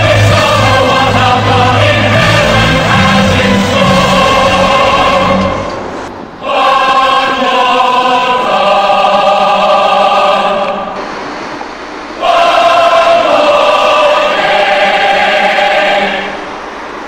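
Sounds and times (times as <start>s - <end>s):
choir singing held chords: 0.0s - 11.1s, 11.9s - 17.0s.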